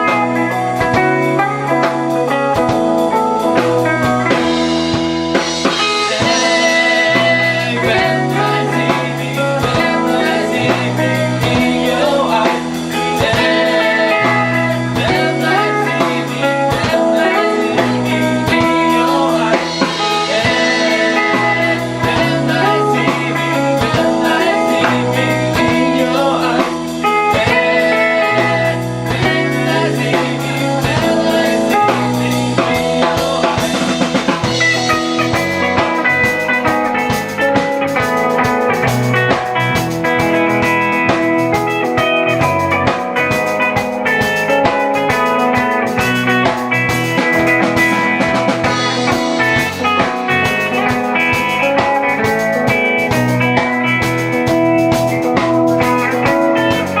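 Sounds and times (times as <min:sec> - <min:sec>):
live blues-rock band: 0:00.0 - 0:57.0
person singing: 0:00.0 - 0:57.0.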